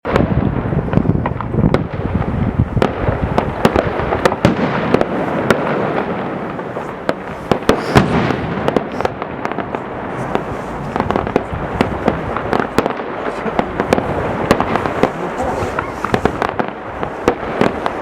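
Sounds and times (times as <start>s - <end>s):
fireworks bangs and crackle: 0.0s - 18.0s.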